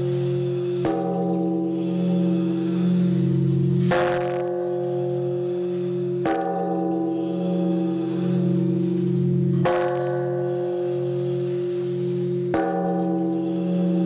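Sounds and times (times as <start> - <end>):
large bell struck: 0.0 - 14.0.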